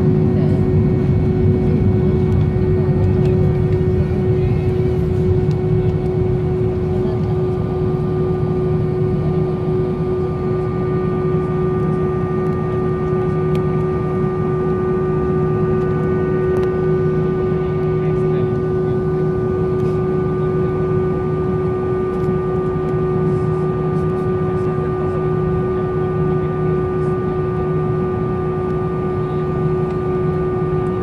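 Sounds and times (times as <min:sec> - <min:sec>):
airplane engine rumble and whine: 0:00.0 - 0:31.0.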